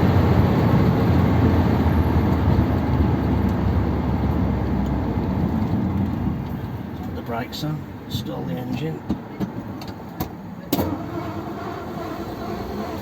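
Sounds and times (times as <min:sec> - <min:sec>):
car engine low rumble: 0:00.0 - 0:13.0
road noise: 0:00.0 - 0:13.0.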